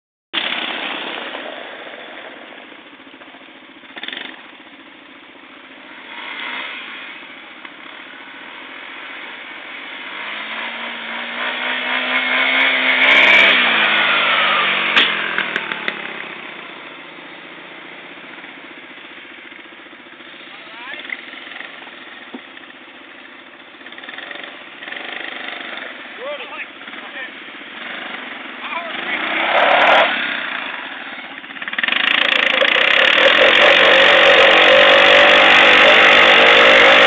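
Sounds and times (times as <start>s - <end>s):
quad engine passing by: 0.4s - 4.8s, 5.6s - 37.0s.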